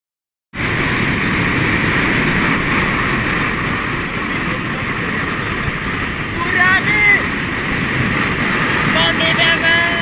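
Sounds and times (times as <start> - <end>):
wind rushing over camera: 0.6 - 10.0.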